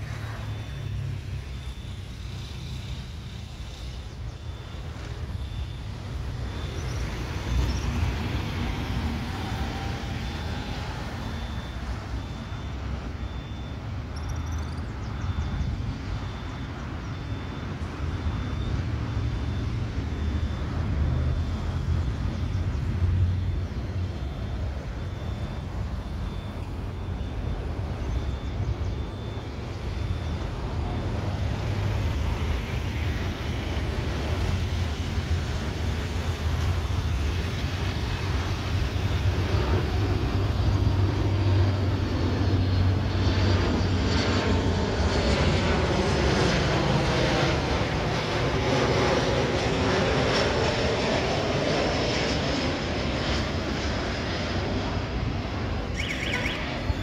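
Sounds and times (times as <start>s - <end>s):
jet engine rumble on approach: 0.0s - 57.0s.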